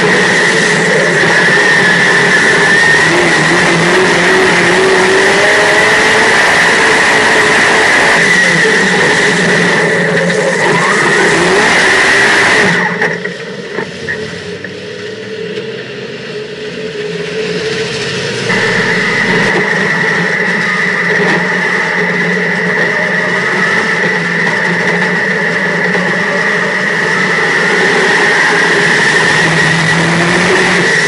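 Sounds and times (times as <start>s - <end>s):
race car engine running: 0.0s - 31.0s.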